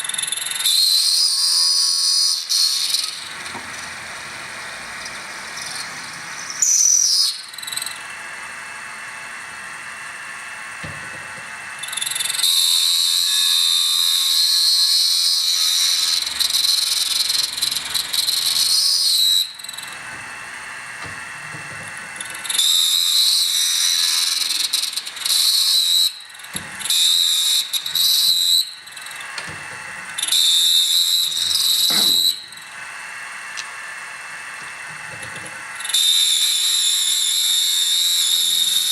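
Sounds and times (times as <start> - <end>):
drill bit squealing in metal: 0.0 - 4.0, 4.8 - 8.1, 11.8 - 20.2, 21.0 - 32.8, 35.2 - 38.9.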